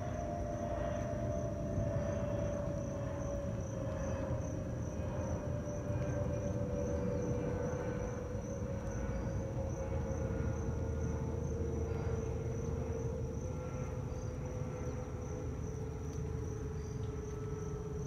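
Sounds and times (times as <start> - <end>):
insects chirping: 0.0 - 18.0
jet airliner passing overhead: 0.0 - 18.0.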